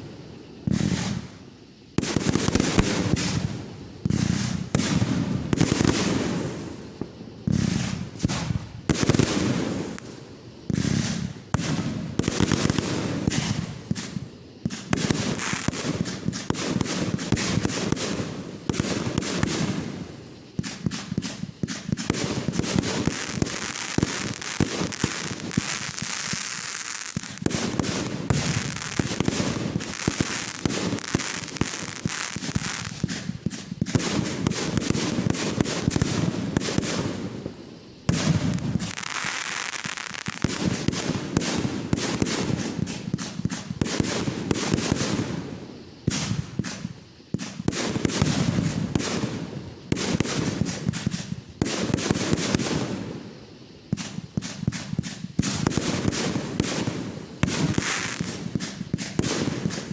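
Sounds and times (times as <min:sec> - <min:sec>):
firework crackling: 0:00.0 - 0:59.9
firework bangs: 0:00.6 - 0:01.3, 0:02.0 - 0:59.9.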